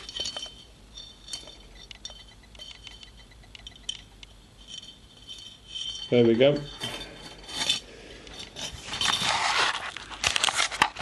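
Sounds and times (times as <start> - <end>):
metal rod clicking and scraping: 0.0 - 9.4.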